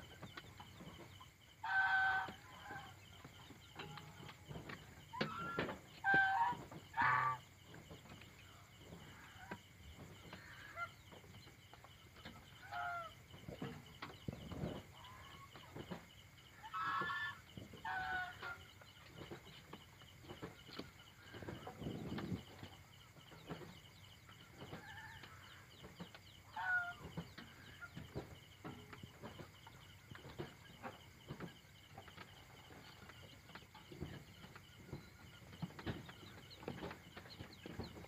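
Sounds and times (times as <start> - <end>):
chickens clucking: 0.0 - 38.0.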